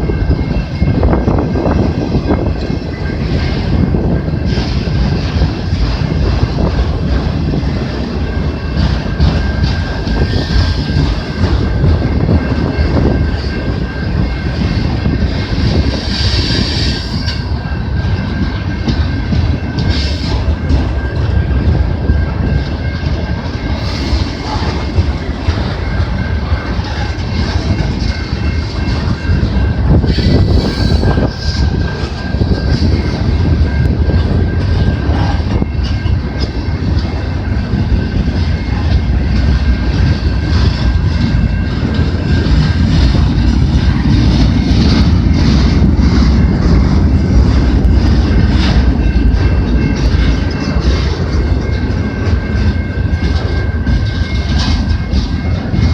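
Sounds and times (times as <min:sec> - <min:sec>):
freight train cars rolling past: 0:00.0 - 0:55.9.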